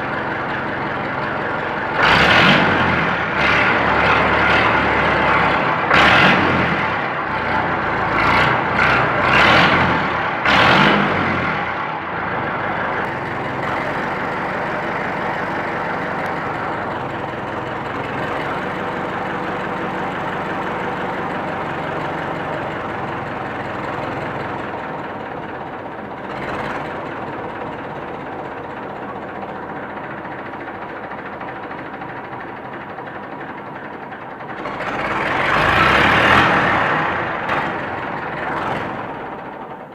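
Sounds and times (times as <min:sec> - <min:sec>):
tractor engine revving and idling: 0:00.0 - 0:39.9.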